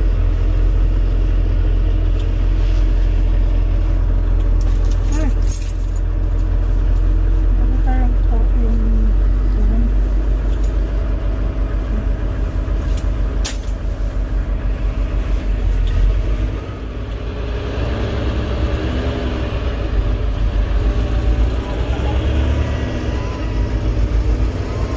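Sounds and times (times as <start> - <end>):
truck diesel engine rumble: 0.0 - 24.9.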